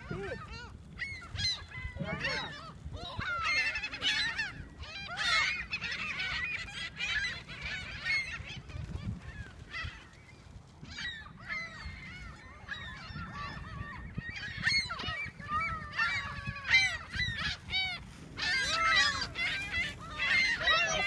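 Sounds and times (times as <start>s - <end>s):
seagulls squawking: 0.0s - 21.0s.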